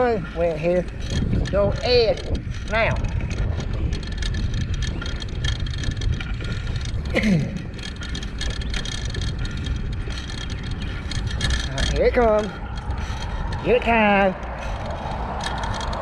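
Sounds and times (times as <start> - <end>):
rumbling road noise: 0.0 - 16.0
wind buffeting microphone: 0.0 - 16.0.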